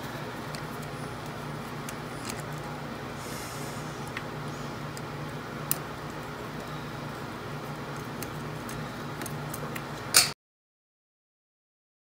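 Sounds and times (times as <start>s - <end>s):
low steady hum: 0.0s - 10.4s.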